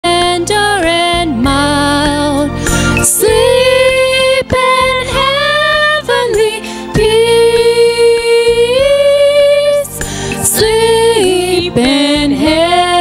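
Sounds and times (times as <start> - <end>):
woman singing into a microphone: 0.0 - 13.0
low steady accompaniment: 0.1 - 13.0.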